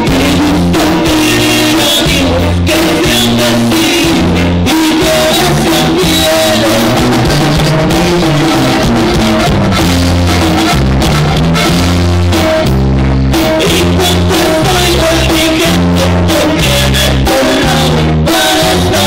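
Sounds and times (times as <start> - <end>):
band playing with bass line: 0.0 - 19.0.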